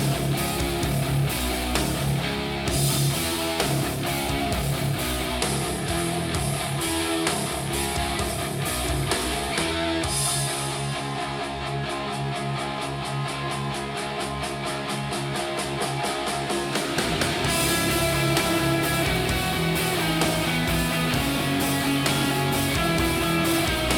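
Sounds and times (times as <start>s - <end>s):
instrumental rock music with guitar: 0.0s - 23.9s.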